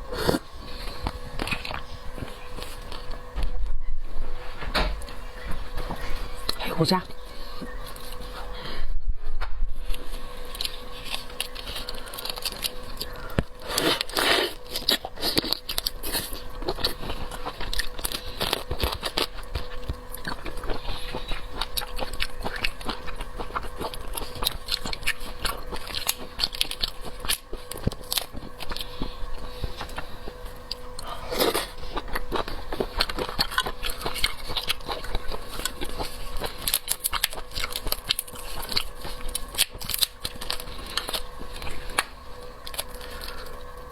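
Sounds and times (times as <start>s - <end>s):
person chewing crunchy food: 0.0s - 3.3s, 9.8s - 43.9s.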